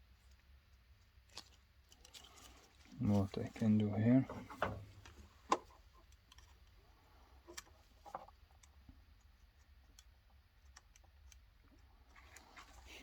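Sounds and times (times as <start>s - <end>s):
low steady hum: 0.0s - 13.0s
faint clicks of small parts: 0.2s - 4.0s, 4.6s - 13.0s.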